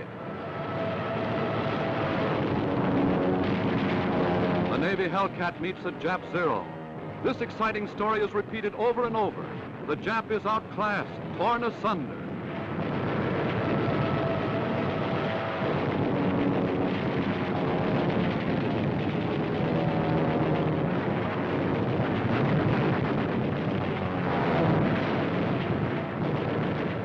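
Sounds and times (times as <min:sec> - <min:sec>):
aircraft engines droning: 0:00.0 - 0:27.0.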